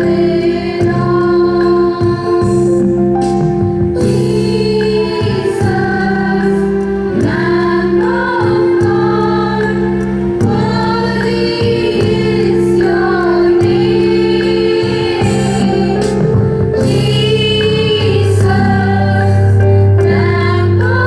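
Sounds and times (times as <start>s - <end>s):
group of voices singing: 0.0s - 21.0s
held accompanying chords: 0.0s - 21.0s.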